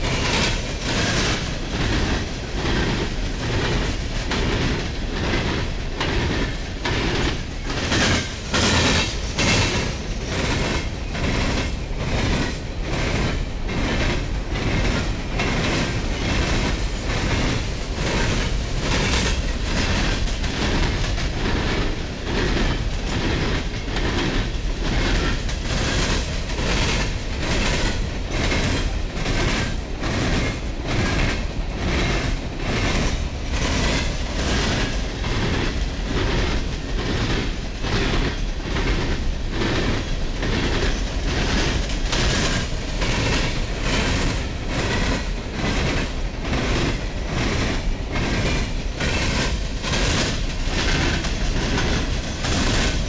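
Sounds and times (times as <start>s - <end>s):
freight train rolling past: 0.0s - 53.0s
wheels clicking over rail joints: 0.0s - 53.0s.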